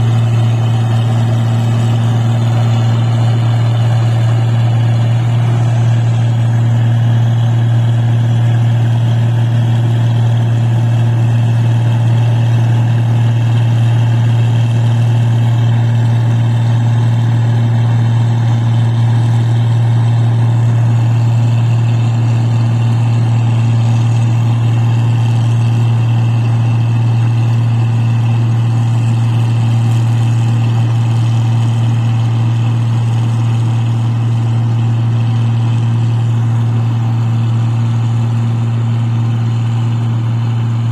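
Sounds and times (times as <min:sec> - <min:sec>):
machine engine humming: 0:00.0 - 0:40.9.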